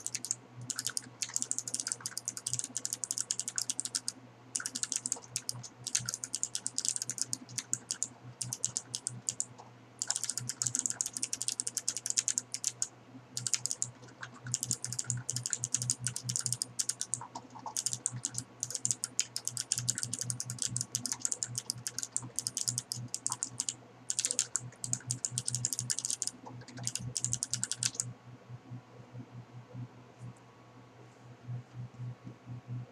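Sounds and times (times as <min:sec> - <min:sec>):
fast typing on keyboard: 0:00.0 - 0:28.0.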